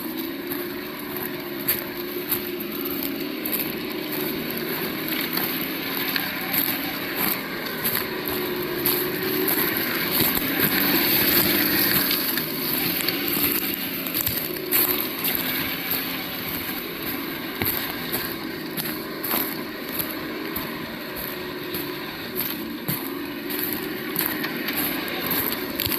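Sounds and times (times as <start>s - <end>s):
irregular clicks and crackles: 0.0s - 25.9s
simulated engine hum: 0.0s - 25.9s.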